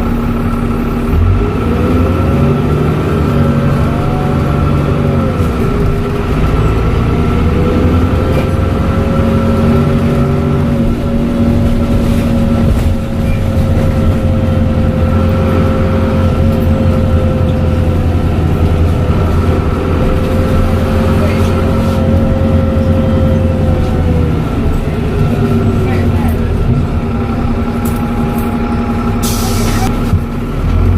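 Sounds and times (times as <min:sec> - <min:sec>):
bus engine droning: 0:00.0 - 0:30.9.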